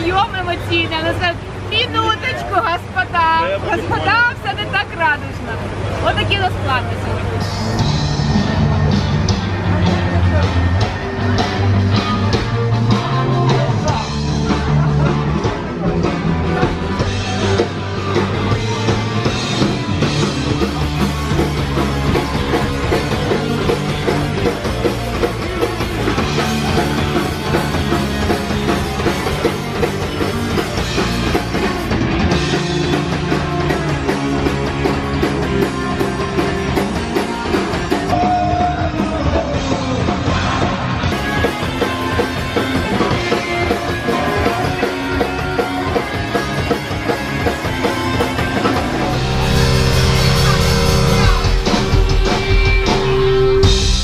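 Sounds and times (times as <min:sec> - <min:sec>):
loud punk rock music: 0:07.2 - 0:54.0.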